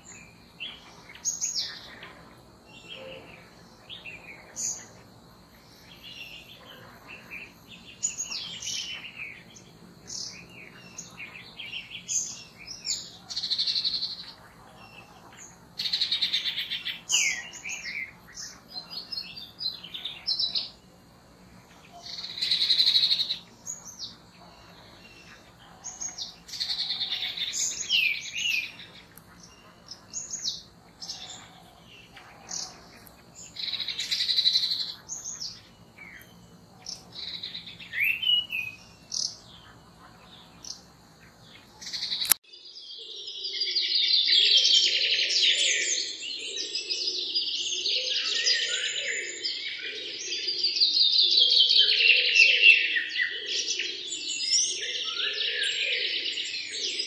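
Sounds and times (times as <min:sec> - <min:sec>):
songbirds singing and chirping: 0:00.0 - 0:57.0.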